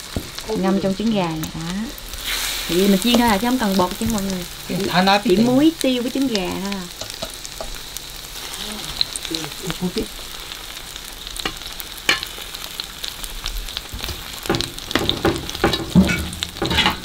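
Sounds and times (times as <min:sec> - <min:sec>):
fish sizzling in hot oil: 0:00.0 - 0:17.0
oil crackling and popping: 0:00.0 - 0:17.0.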